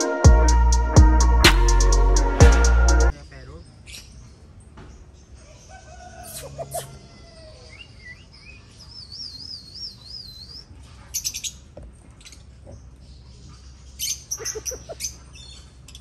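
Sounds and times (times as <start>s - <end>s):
birds chirping: 2.6s - 16.0s.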